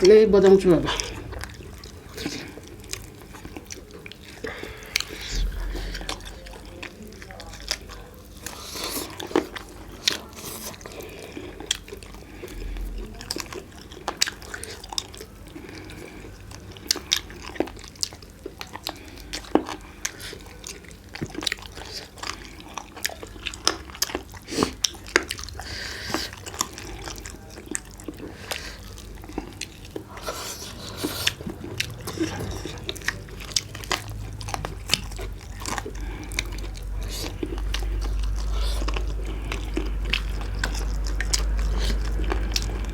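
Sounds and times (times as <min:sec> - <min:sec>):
person chewing and crunching food: 0:00.0 - 0:42.9.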